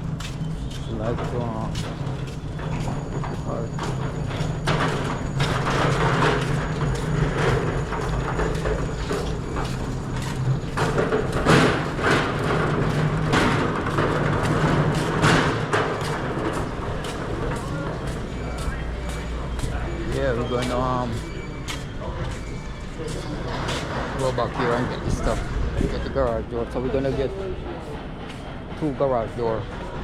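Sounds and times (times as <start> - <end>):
cart rattling and clacking: 0.0 - 30.0
cart wheels rumbling on floor: 0.0 - 30.0.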